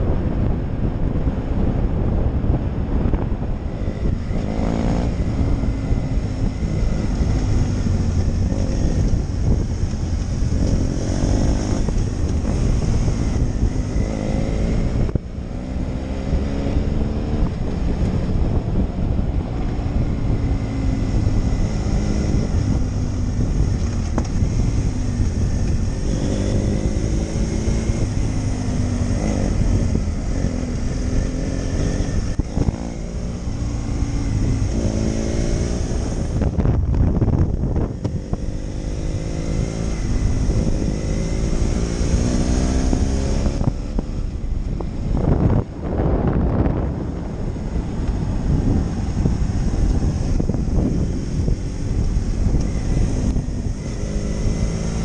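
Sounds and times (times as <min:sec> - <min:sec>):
wind rumble on microphone: 0:00.0 - 0:55.0
motorcycle engine revving: 0:00.1 - 0:55.0.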